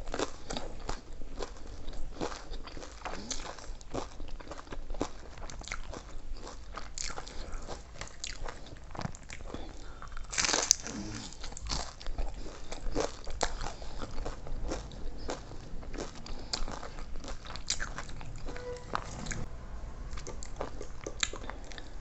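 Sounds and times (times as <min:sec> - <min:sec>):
chewing crisp food: 0:00.0 - 0:18.6, 0:20.1 - 0:22.0.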